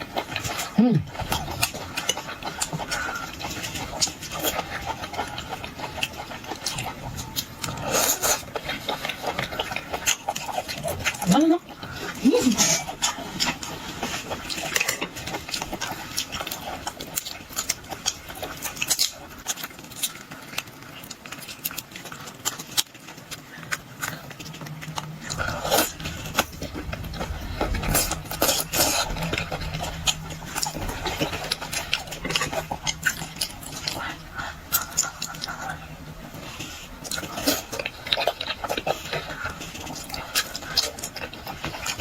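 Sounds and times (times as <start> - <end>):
low steady hum: 0.0 - 42.0
wet chewing and lip smacking: 0.0 - 42.0.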